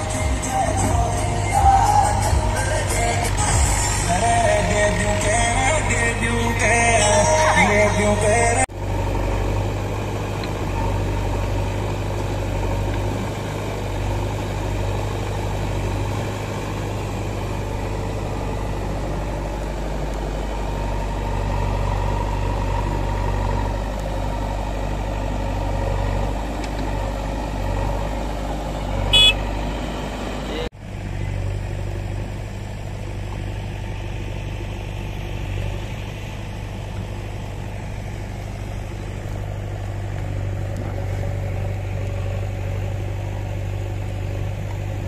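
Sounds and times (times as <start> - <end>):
heavy diesel engines idling: 0.0 - 45.0.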